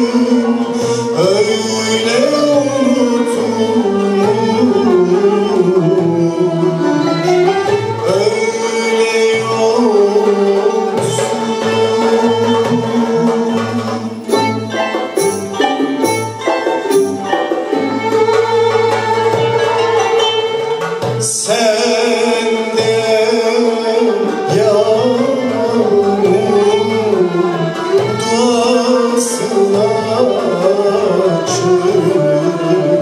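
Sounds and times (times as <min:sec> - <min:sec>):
man singing: 0:00.0 - 0:15.6, 0:21.1 - 0:33.0
percussion rhythm: 0:00.0 - 0:33.0
violins: 0:00.0 - 0:33.0.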